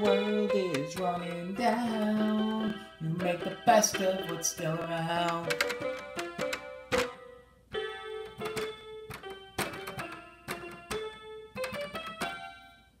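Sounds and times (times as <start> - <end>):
solo keyboard playing: 0.0 - 13.0.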